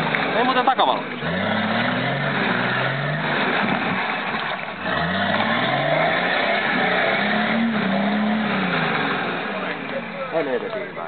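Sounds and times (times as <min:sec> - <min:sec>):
off-road engine revving hard: 0:00.0 - 0:09.8
mud and water washing under wheels: 0:00.0 - 0:11.0.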